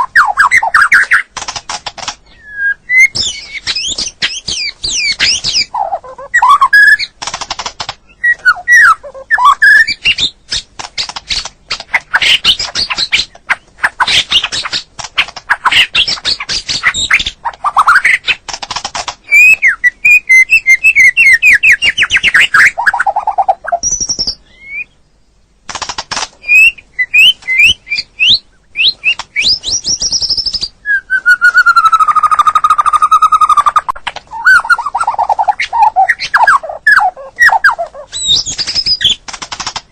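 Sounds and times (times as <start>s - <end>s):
songbird singing varied song: 0.0s - 7.2s, 8.0s - 18.4s, 19.2s - 25.6s, 26.4s - 39.2s.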